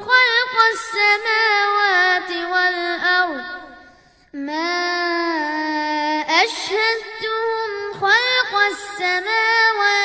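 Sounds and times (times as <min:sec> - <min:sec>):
child chanting melodically: 0:00.0 - 0:10.0.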